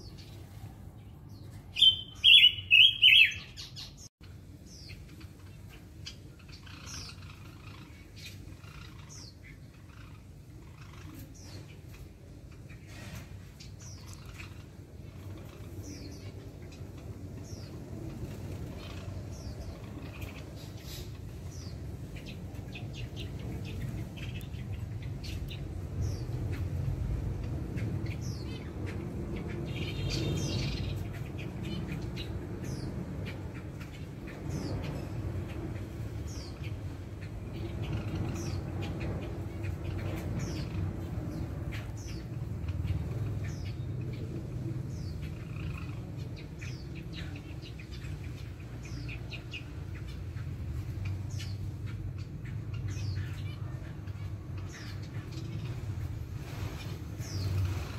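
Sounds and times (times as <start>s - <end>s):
caged birds chirping: 0.0s - 57.9s
steady low rumble: 3.6s - 57.9s.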